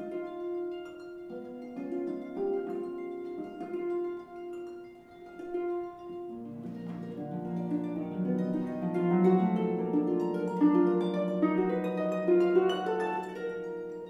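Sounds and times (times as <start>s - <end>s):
solo harp playing: 0.0s - 14.0s.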